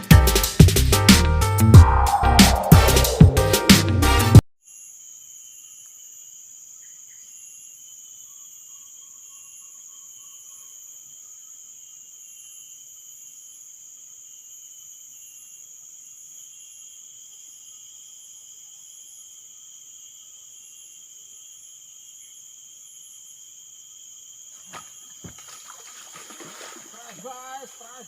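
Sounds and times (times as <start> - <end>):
crickets droning: 4.6 - 28.0
insects calling in pulses: 4.7 - 28.0.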